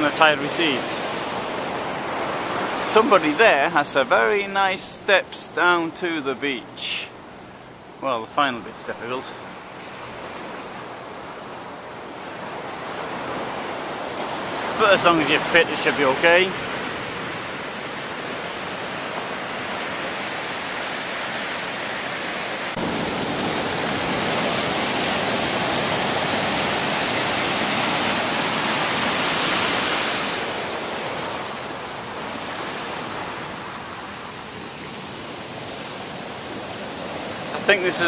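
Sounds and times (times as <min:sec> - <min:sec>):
ocean surf breaking: 0:00.0 - 0:38.0.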